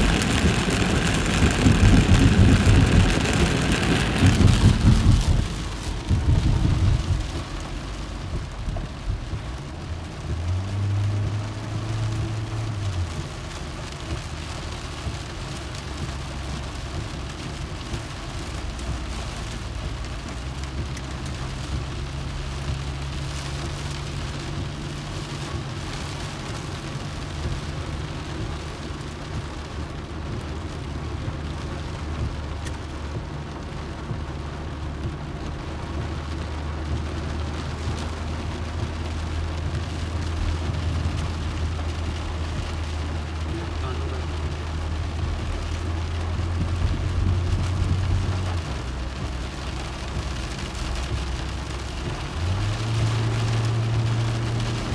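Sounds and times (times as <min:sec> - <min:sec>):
car engine hum: 0:00.0 - 0:54.9
rain falling on car: 0:00.0 - 0:54.9
tyres on wet road: 0:00.0 - 0:54.9.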